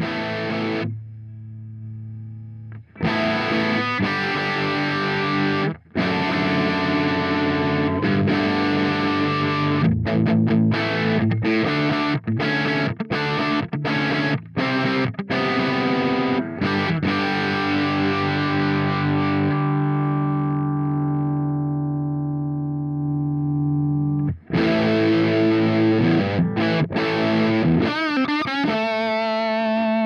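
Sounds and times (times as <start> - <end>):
overdriven electric guitar chords: 0.0 - 30.0.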